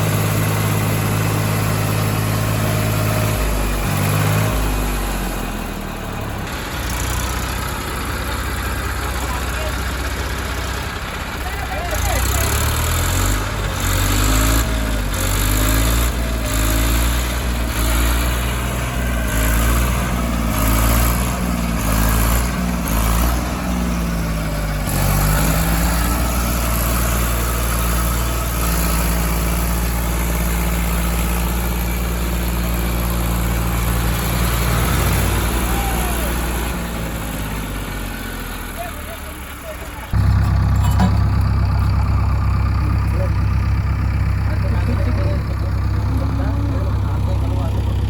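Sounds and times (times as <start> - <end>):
diesel engines working: 0.0 - 48.0.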